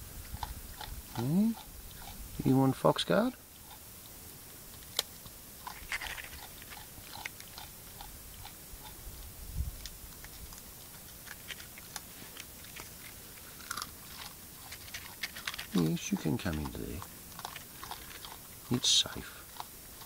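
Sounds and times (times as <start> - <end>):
wallaby chewing crunches: 0.1 - 20.0.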